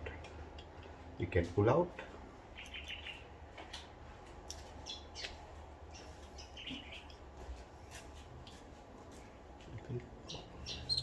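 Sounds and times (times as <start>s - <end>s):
birds chirping faintly: 0.0s - 8.2s, 9.0s - 11.0s
low steady hum: 0.0s - 11.0s.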